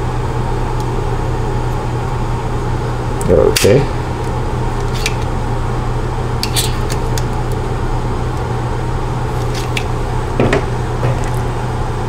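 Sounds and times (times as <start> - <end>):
steady low hum and hiss: 0.0 - 12.0.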